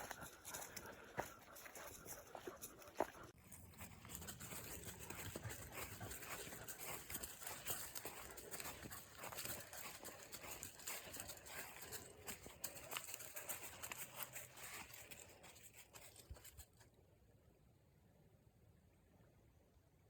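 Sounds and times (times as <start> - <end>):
footsteps crunching on leaves and twigs: 0.0 - 16.5.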